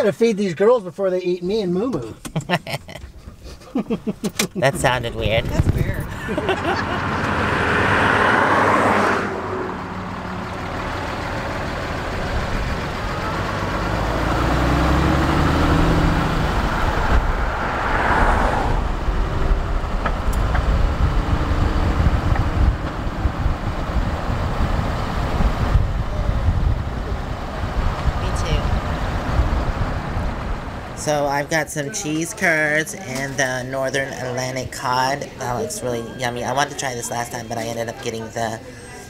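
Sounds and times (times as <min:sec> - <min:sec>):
road noise: 0:00.0 - 0:39.0
vehicle engine: 0:02.2 - 0:39.0.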